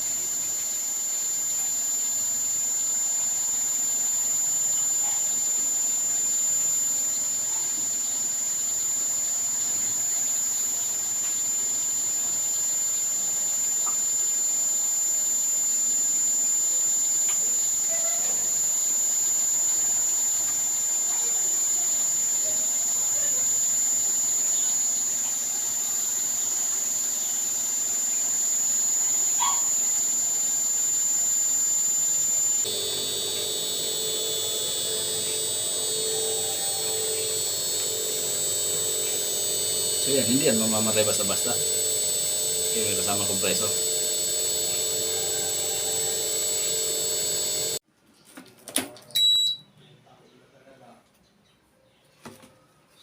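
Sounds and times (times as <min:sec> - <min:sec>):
high-pitched whine: 0:00.0 - 0:47.8.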